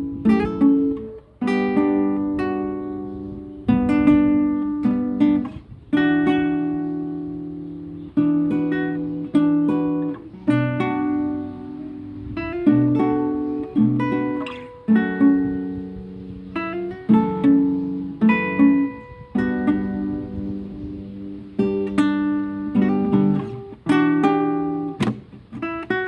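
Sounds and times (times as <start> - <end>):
guitar chords strummed: 0.0 - 26.0.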